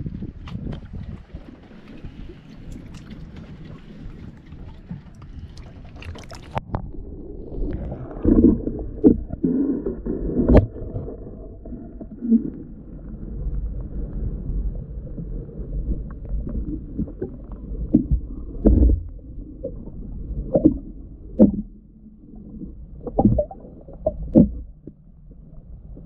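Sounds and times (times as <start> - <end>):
heavy underwater bumps: 0.0 - 21.9, 22.5 - 25.0
underwater gurgling: 0.0 - 26.0.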